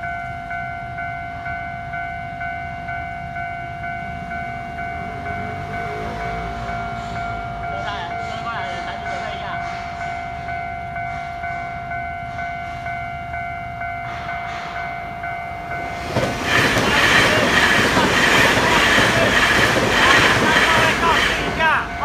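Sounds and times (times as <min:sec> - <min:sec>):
level crossing warning bell: 0:00.0 - 0:22.0
train passing: 0:00.0 - 0:22.0.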